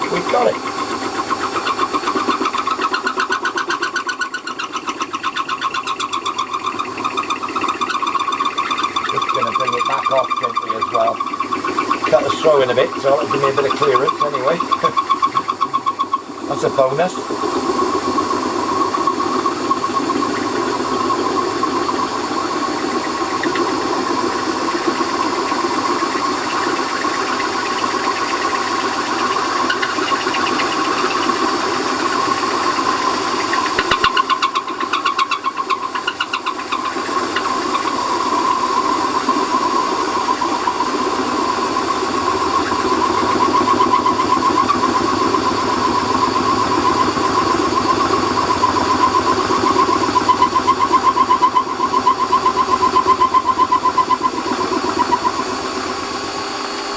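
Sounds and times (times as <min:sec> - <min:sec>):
lathe running whine: 0:00.0 - 0:56.9.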